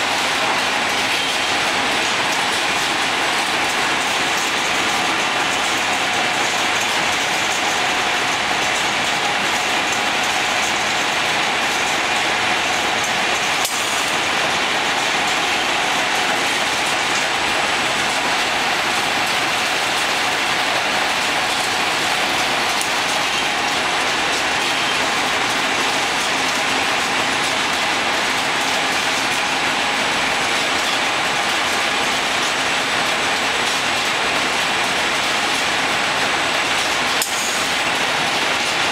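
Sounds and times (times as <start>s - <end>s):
paper converting machine running: 0.0s - 38.9s.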